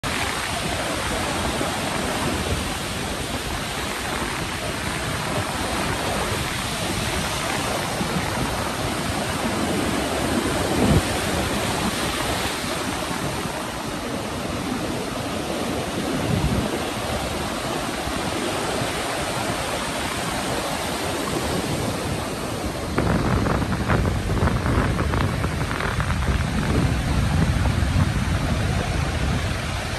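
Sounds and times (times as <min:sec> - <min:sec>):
waves breaking: 0:00.0 - 0:29.9
wind buffeting microphone: 0:00.0 - 0:29.9.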